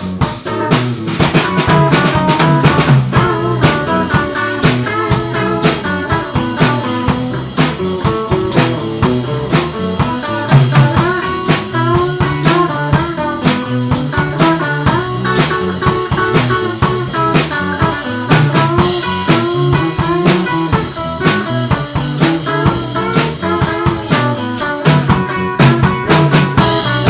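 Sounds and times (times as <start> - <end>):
blues guitar lines: 0.0 - 27.0
drum kit straight beat: 0.0 - 27.0.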